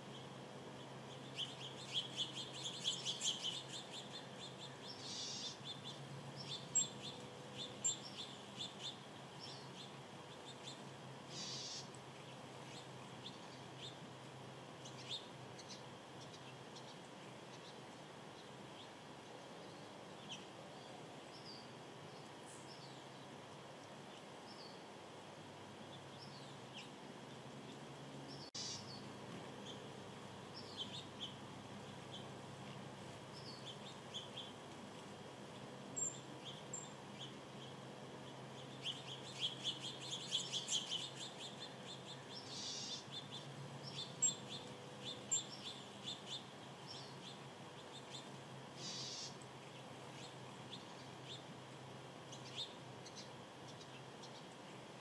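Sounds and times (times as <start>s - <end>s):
small birds chirping: 0.0s - 55.0s
steady background hiss: 0.0s - 55.0s.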